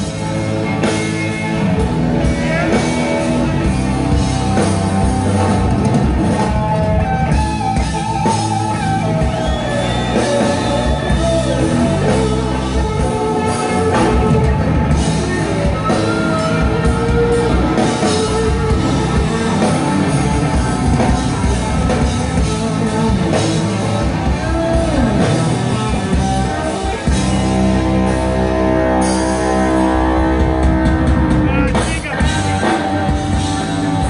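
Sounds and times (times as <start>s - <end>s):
drum kit: 0.0s - 34.0s
electric guitar: 0.0s - 34.0s.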